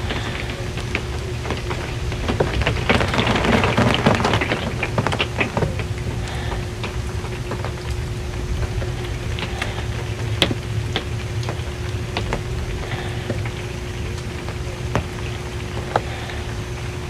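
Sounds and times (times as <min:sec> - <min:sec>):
rain on a metal roof: 0:00.0 - 0:17.0
steady low hum: 0:00.0 - 0:17.0.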